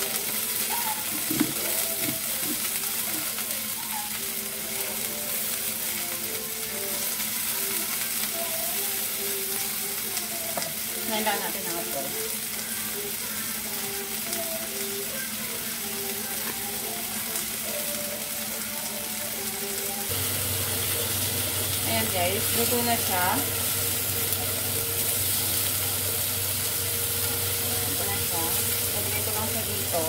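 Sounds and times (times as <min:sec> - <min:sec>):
chicken sizzling in a wok: 0:00.0 - 0:30.0.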